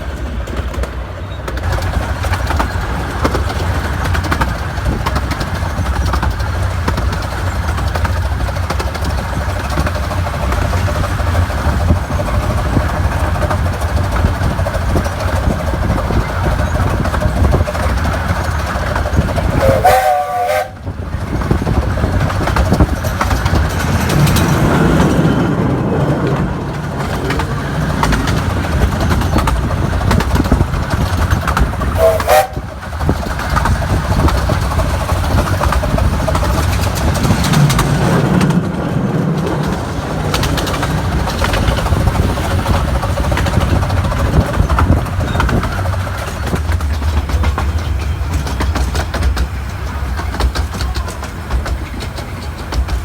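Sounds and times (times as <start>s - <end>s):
miniature train rumbling on rails: 0.0s - 53.0s.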